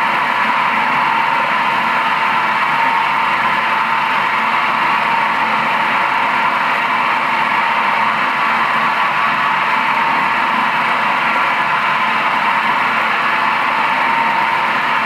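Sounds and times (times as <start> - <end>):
bowl cutter whirring: 0.0 - 15.0.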